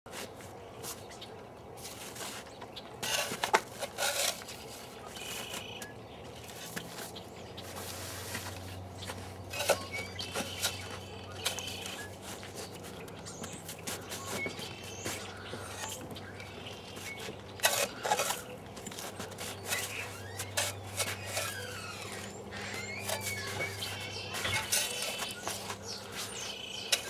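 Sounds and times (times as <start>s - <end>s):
digger bucket scraping snow: 1.8s - 27.0s.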